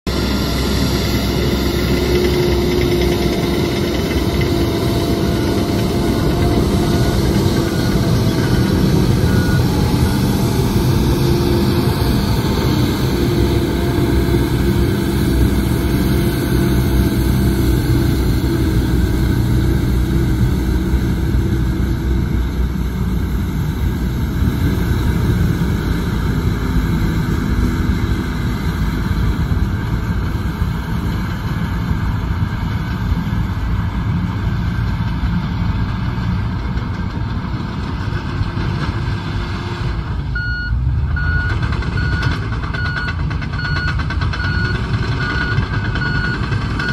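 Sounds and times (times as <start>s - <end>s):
diesel truck engine running: 0.1s - 46.9s.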